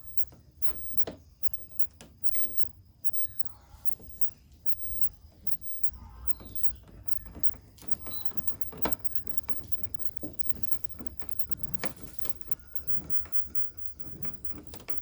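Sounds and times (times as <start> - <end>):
screws and hand tool clicking: 0.0 - 15.0.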